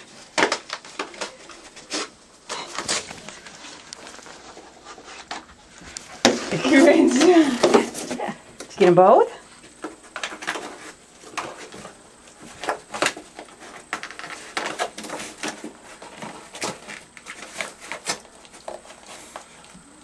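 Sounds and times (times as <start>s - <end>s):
cardboard rustling and tearing: 0.0s - 8.3s, 9.8s - 19.6s.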